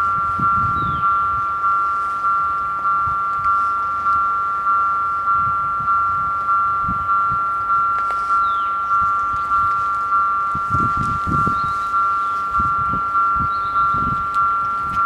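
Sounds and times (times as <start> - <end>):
level crossing bells ringing: 0.0 - 15.0.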